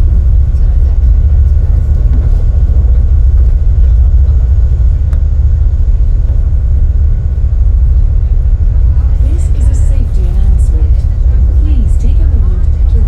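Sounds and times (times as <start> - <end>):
faint steady whines: 0.0 - 13.0
ferry engines rumbling: 0.0 - 13.0.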